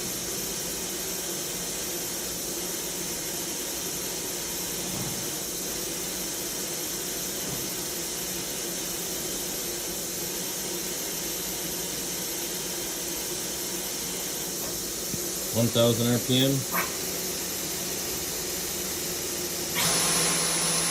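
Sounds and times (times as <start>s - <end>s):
machining center hiss and hum: 0.0s - 20.9s.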